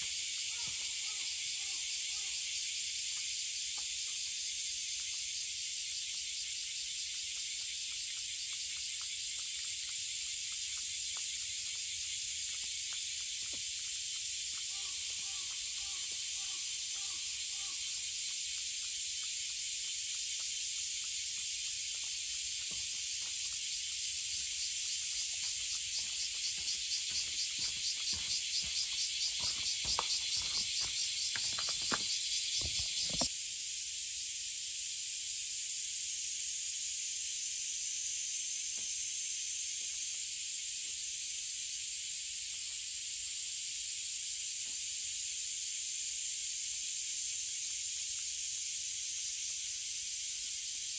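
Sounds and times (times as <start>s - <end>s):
chorus of cicadas: 0.0s - 50.9s
nearby cicada pulsing call: 0.0s - 50.9s.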